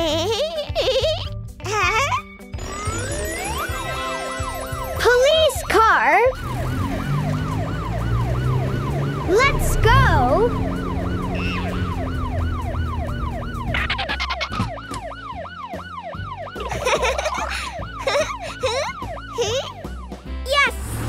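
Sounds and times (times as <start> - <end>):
cartoon police siren wailing: 2.6 - 20.2.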